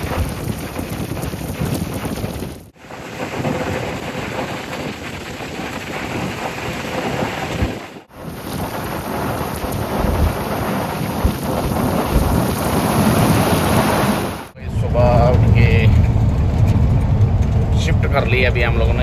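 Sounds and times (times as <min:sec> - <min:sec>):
wind buffeting thumps: 0:00.0 - 0:19.0
wind roaring over microphone: 0:00.0 - 0:19.0.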